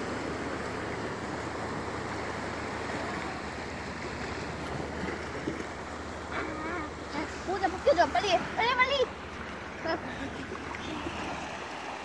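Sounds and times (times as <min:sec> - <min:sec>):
small waves washing on beach: 0:00.0 - 0:12.0.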